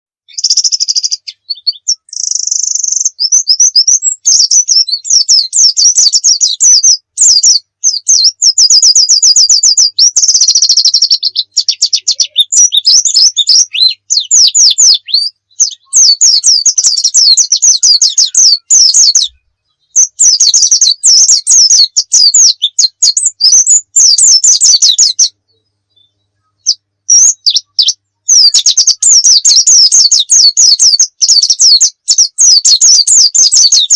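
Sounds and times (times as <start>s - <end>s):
bird twittering song: 0.3s - 33.9s.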